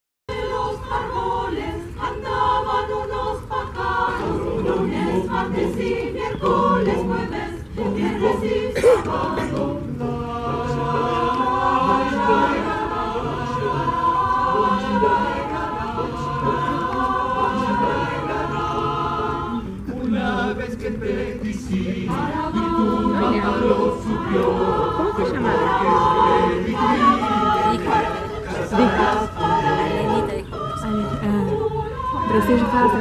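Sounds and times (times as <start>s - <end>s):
choir singing: 0.3s - 33.0s.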